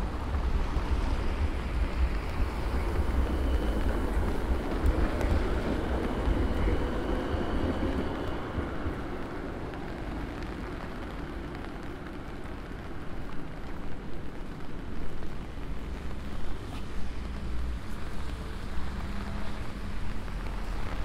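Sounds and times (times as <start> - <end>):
rain hissing: 0.0 - 21.0
wet road noise: 0.0 - 21.0.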